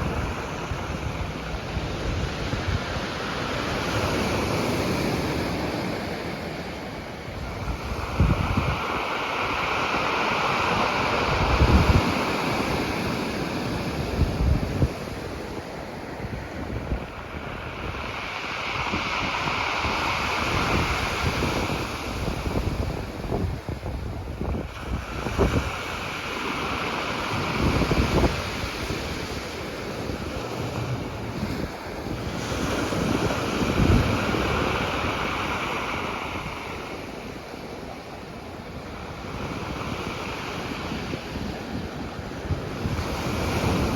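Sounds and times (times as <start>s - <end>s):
sea waves breaking on rocks: 0.0s - 43.9s
wind buffeting microphone: 0.0s - 43.9s.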